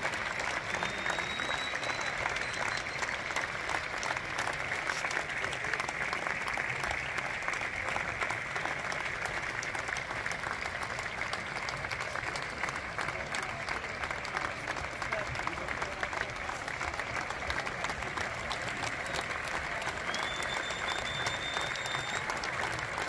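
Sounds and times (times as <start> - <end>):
large audience applauding: 0.0 - 23.0.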